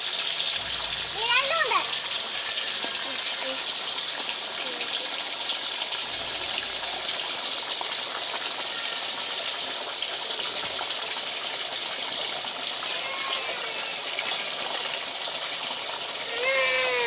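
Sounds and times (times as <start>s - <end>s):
water pouring into metal basin: 0.0s - 17.0s.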